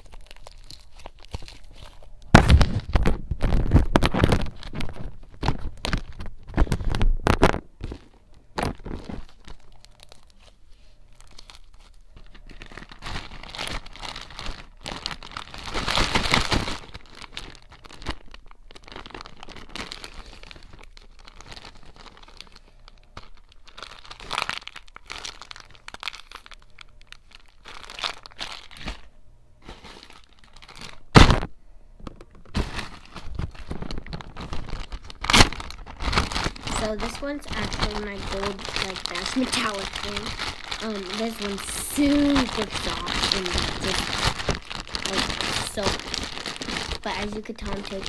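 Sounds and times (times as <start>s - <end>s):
plastic bag crinkling: 0.0s - 48.0s.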